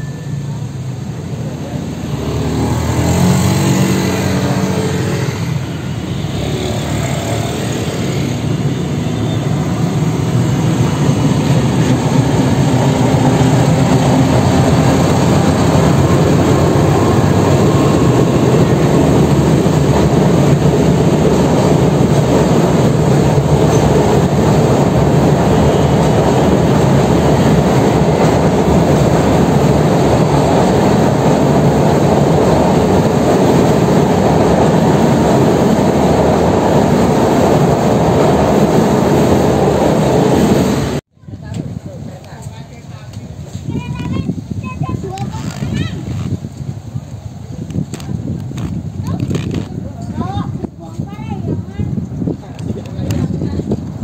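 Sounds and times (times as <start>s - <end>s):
train rumbling over steel bridge: 0.0s - 54.0s.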